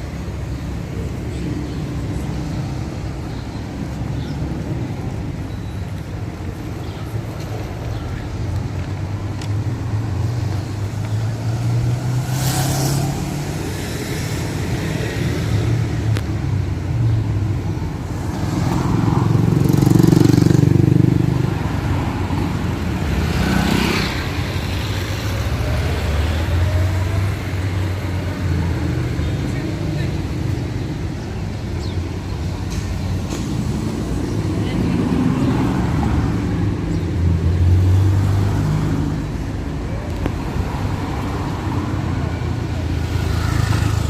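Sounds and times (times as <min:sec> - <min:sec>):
low engine rumble of traffic: 0:00.0 - 0:44.0
vehicles passing: 0:00.0 - 0:44.0.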